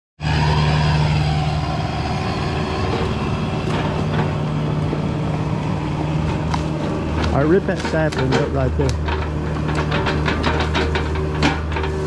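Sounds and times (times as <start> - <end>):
diesel engine running: 0.2 - 12.0.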